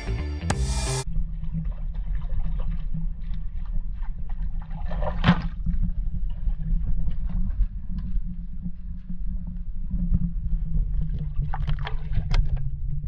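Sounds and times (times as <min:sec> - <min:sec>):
steady low rumble: 0:00.0 - 0:13.0
muffled water sloshing: 0:01.1 - 0:13.0.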